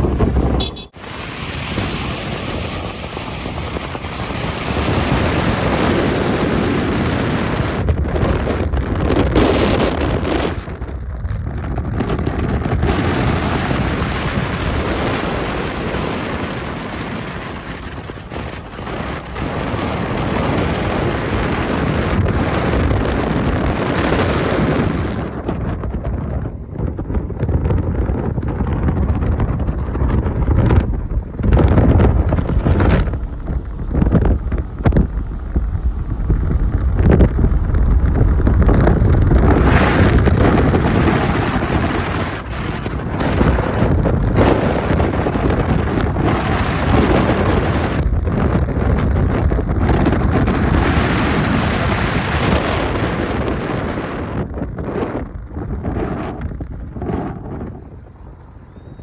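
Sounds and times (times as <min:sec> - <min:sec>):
vehicle road and engine noise: 0:00.0 - 0:59.0
wind rushing over microphone: 0:00.0 - 0:59.0.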